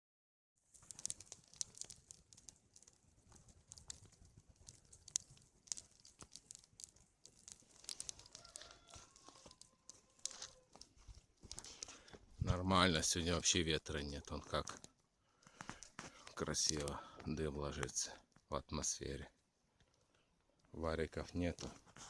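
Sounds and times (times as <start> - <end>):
bonfire crackling and popping: 0.6 - 22.0.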